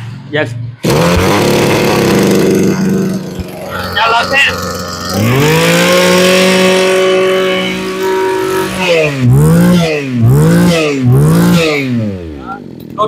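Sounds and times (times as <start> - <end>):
brush cutter engine revving: 0.8 - 13.0.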